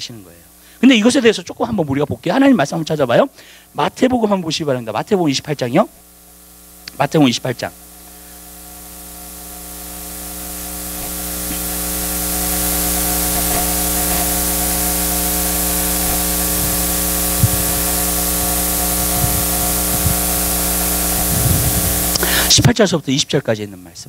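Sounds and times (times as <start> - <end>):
electrical mains hum: 0.0 - 24.0
steady hiss: 0.0 - 24.0.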